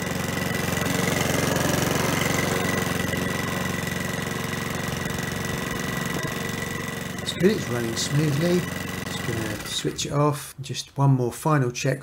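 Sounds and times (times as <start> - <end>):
lawnmower engine running: 0.0 - 10.4.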